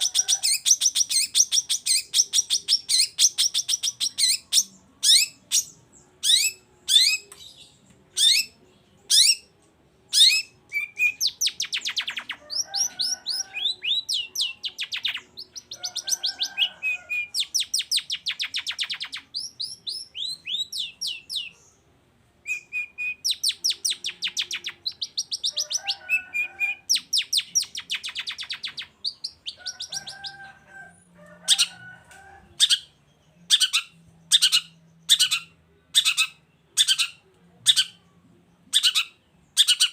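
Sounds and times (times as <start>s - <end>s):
shrike singing: 0.0s - 21.6s, 22.4s - 39.9s.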